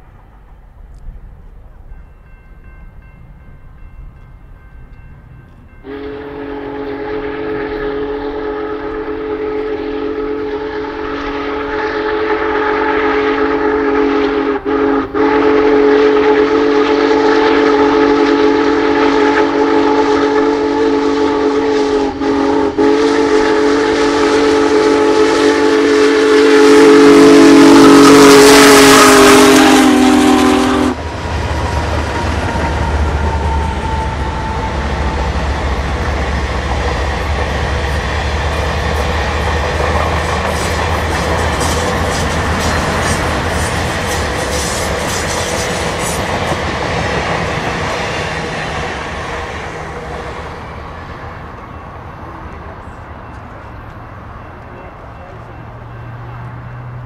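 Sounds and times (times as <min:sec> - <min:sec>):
low rumble of passing train: 0:00.0 - 0:57.0
steam locomotive whistle: 0:05.8 - 0:53.4.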